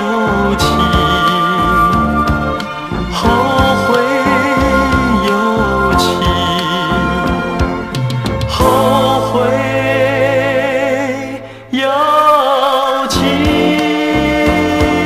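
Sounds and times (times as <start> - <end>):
pop song from a vinyl record: 0.0 - 15.0.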